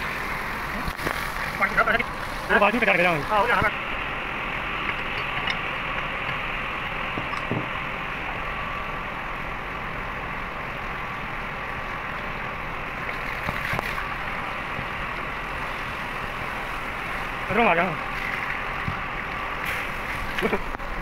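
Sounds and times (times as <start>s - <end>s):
machinery hum and hiss: 0.0s - 21.0s.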